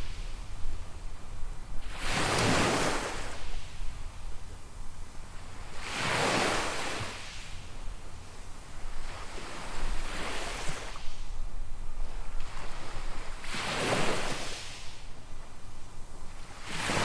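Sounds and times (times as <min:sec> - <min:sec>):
small waves washing onto sand: 0:00.0 - 0:17.0
wind rumble on microphone: 0:00.0 - 0:17.0.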